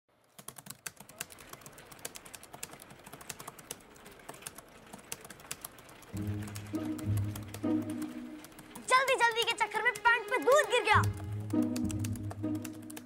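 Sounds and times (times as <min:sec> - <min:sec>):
computer keyboard typing: 0:00.2 - 0:13.0.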